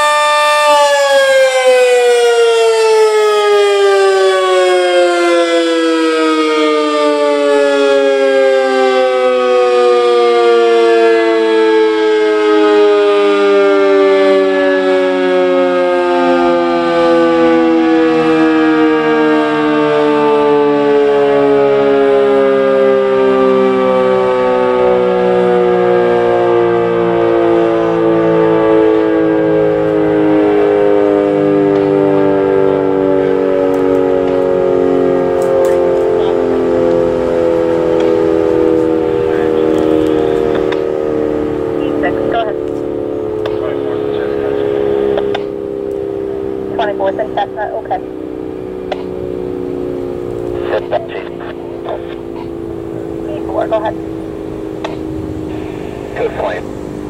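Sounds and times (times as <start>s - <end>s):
warning siren winding down: 0.0s - 57.0s.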